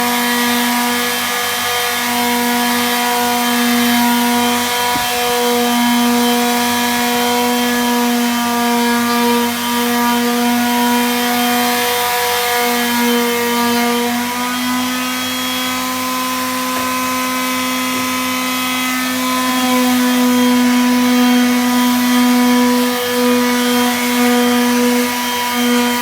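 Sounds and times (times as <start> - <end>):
electric power tool humming: 0.0 - 26.0.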